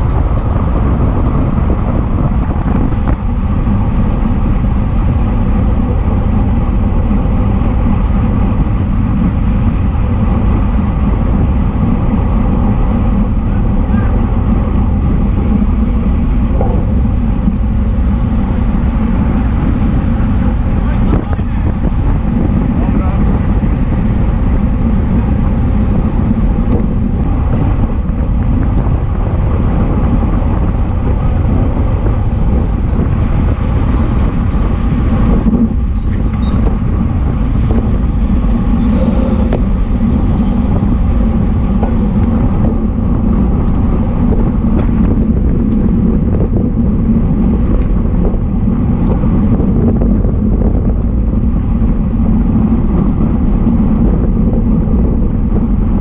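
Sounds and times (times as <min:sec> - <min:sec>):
road rumble: 0:00.0 - 0:56.0
wind rush on microphone: 0:00.0 - 0:56.0.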